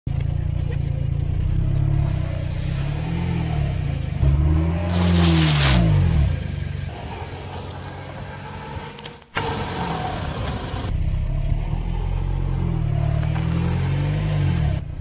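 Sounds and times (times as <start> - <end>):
car engine revving: 1.1 - 15.0.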